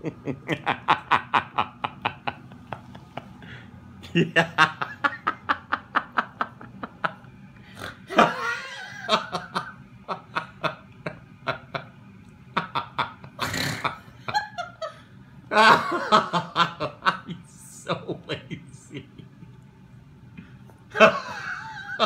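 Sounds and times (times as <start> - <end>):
person laughing: 0.0 - 7.3, 7.9 - 11.9, 12.6 - 19.5, 20.9 - 22.0.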